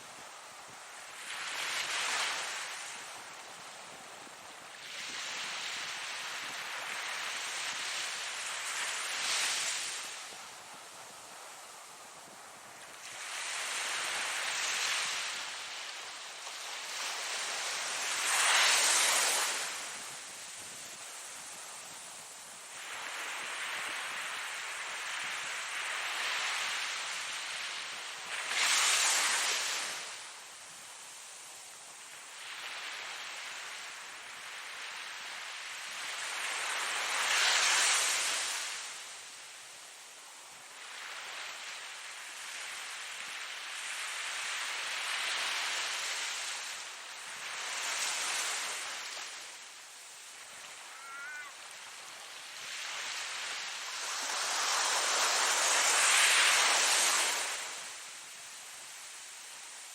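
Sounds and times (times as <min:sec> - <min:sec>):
ocean wave: 0:00.0 - 0:59.9.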